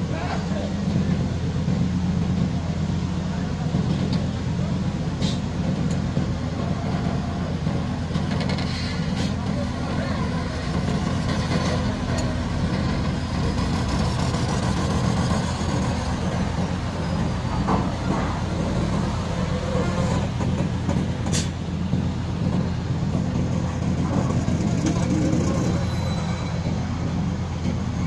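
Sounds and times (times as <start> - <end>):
truck diesel engine rumbling: 0.0 - 28.0.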